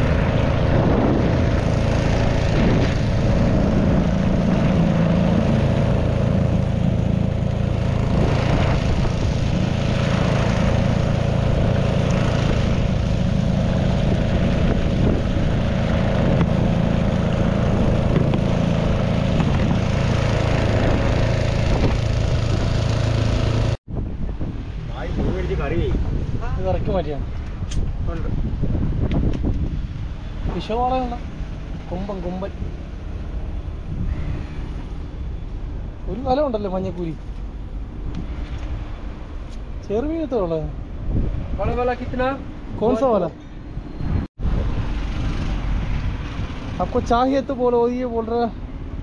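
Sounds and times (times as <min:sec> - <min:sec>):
boat engine droning: 0:00.0 - 0:23.8, 0:29.8 - 0:49.0.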